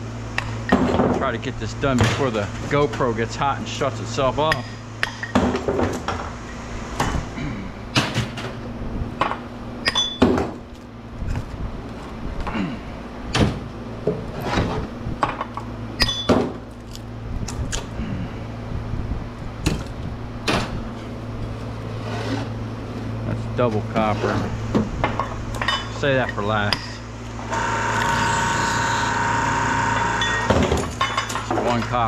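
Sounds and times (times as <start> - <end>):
electric hum: 0.0 - 32.0.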